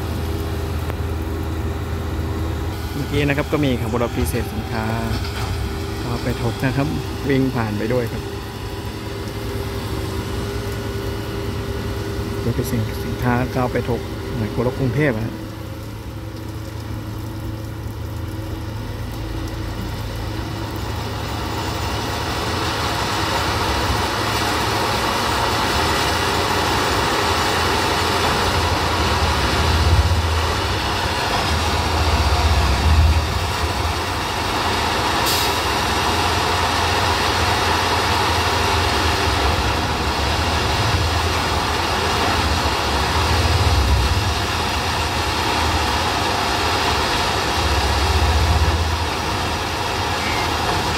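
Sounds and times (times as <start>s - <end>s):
track machine diesel engine rumble: 0.0s - 50.9s.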